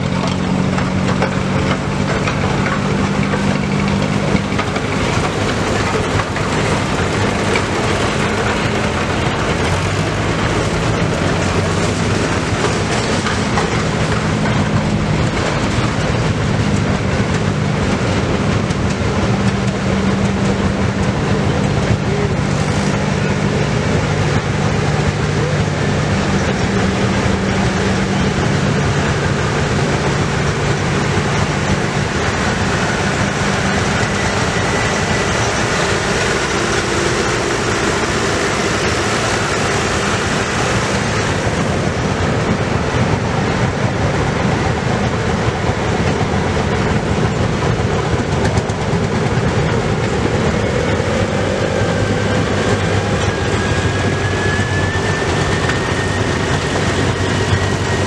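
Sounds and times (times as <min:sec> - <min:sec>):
old tractor engines running: 0:00.0 - 0:58.0.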